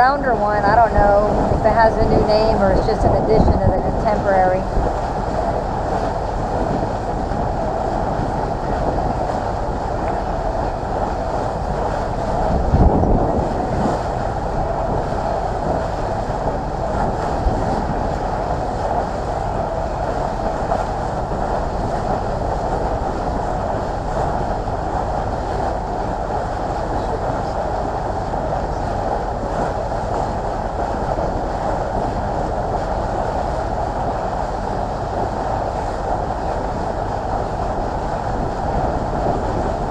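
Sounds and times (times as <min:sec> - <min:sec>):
boat engine drone: 0:00.0 - 0:39.9
wind buffeting microphone: 0:00.0 - 0:39.9.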